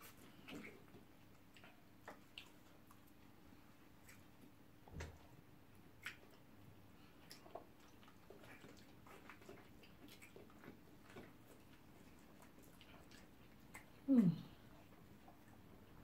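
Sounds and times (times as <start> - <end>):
faint low hum: 0.0 - 16.0
people chewing: 0.0 - 16.0.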